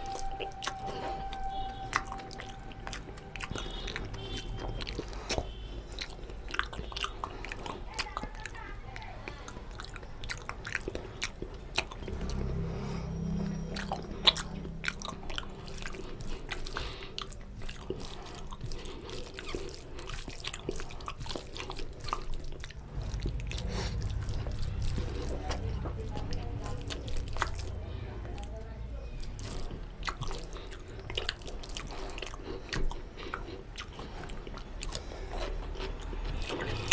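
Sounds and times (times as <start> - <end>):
wet chewing and lip-smacking: 0.0 - 36.9.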